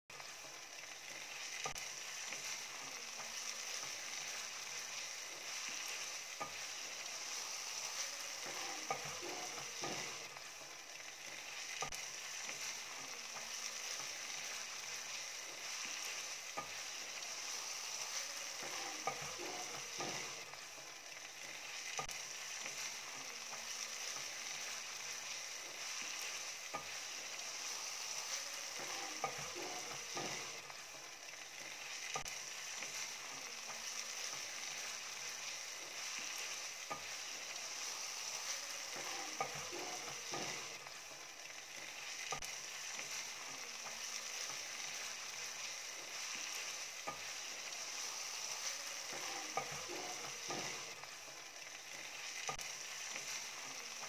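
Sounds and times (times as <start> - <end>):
food sizzling in a pan: 0.1 - 54.0.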